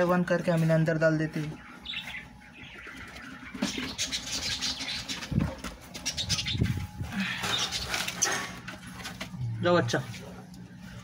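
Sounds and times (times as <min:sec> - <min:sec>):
rustling and handling noise: 0:00.0 - 0:11.0.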